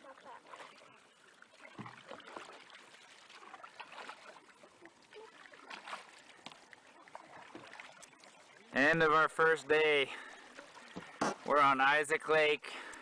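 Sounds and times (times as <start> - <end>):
paddle strokes in water: 0.0 - 11.9
water splashing and trickling: 0.0 - 13.0.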